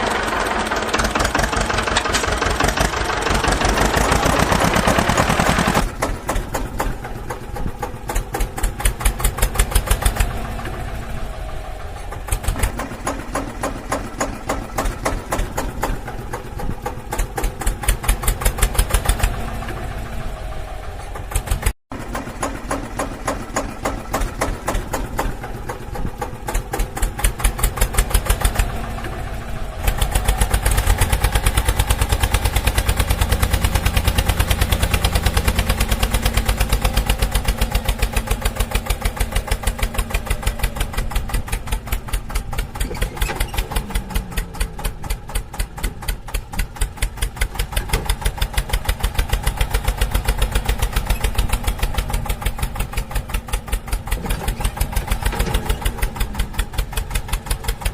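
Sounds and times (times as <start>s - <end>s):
tractor engine idling: 0.0s - 57.9s.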